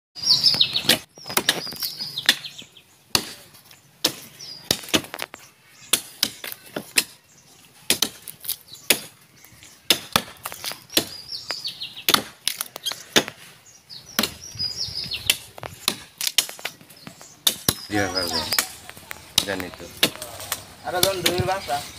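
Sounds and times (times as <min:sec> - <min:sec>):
falling bird calls: 0:00.2 - 0:21.9
axe chopping tree trunk: 0:00.7 - 0:07.2, 0:07.8 - 0:09.2, 0:09.8 - 0:13.4, 0:14.1 - 0:14.5, 0:15.2 - 0:21.6.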